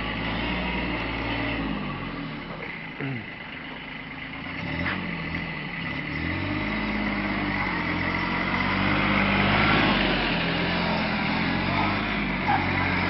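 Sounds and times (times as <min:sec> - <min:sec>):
tractor diesel engine passing: 0:00.0 - 0:13.0.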